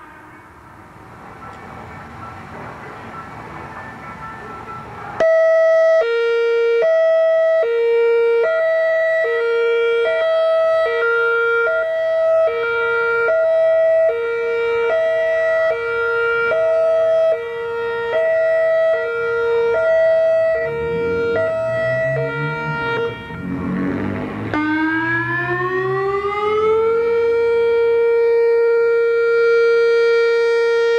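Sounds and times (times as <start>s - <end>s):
hi-lo warning siren: 0.0s - 30.9s.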